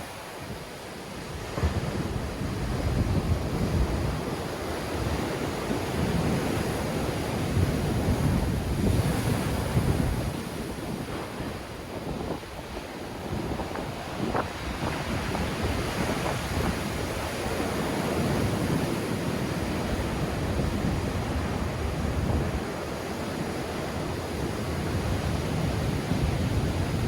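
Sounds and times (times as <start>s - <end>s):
sea waves breaking on shore: 0.0s - 27.0s
wind buffeting microphone: 0.0s - 27.0s.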